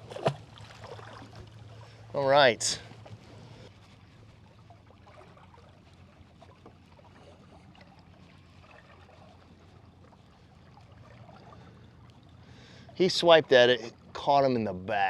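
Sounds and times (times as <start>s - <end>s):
low motor hum: 0.0s - 14.9s
water trickling and lapping: 0.0s - 15.0s.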